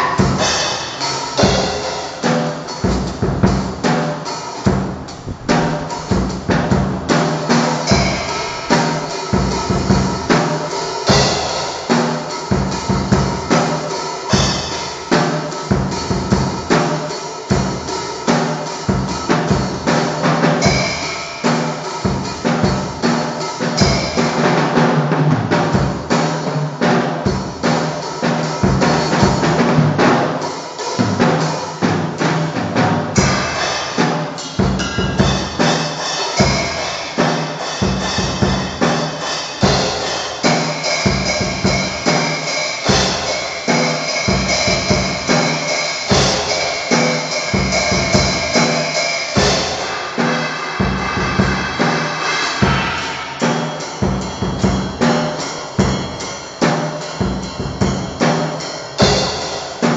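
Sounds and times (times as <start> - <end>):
drum kit playing: 0.0 - 59.9.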